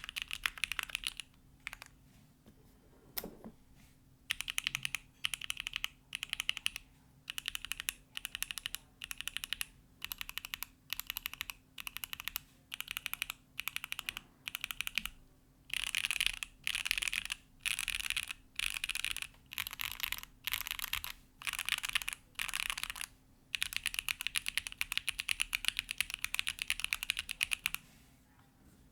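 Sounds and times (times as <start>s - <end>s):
mechanical keyboard typing: 0.0s - 2.0s, 4.3s - 27.8s.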